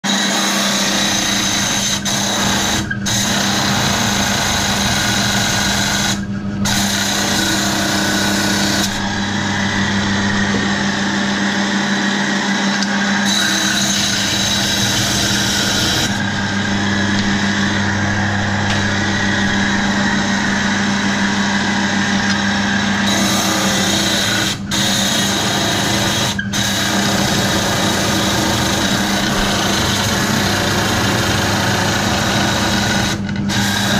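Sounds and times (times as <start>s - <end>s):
saw humming: 0.0s - 33.9s
blade grinding stone: 0.1s - 9.3s, 13.2s - 20.8s, 22.1s - 33.9s.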